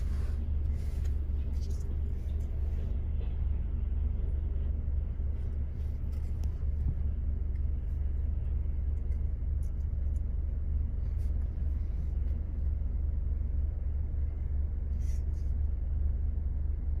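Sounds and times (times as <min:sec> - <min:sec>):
car idling: 0:00.0 - 0:17.0.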